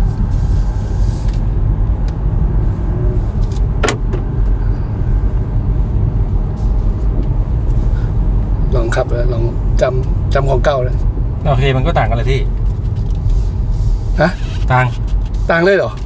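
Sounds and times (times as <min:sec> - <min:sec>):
road and tyre rumble in car: 0:00.0 - 0:16.0.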